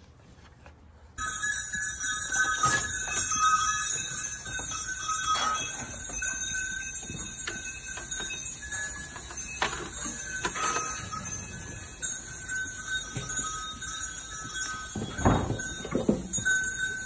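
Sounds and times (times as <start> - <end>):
goat bells jingling and clanging: 1.2 - 17.0.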